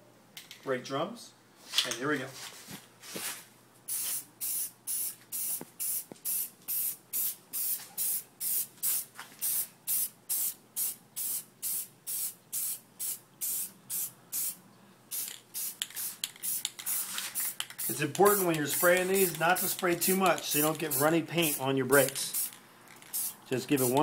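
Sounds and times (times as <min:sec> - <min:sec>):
aerosol spray can hissing: 0:03.9 - 0:24.0.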